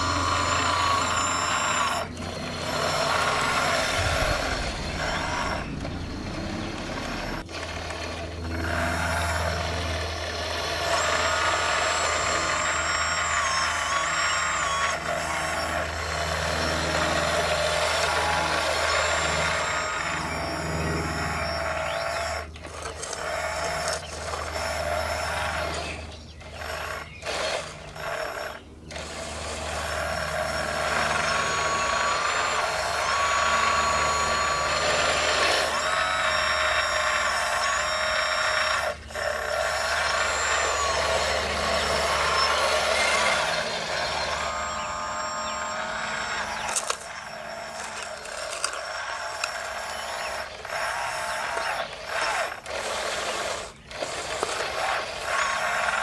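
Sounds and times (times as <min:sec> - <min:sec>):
low hum: 0:00.0 - 0:27.0, 0:27.6 - 0:51.5
small electric motors whining: 0:00.0 - 0:56.0.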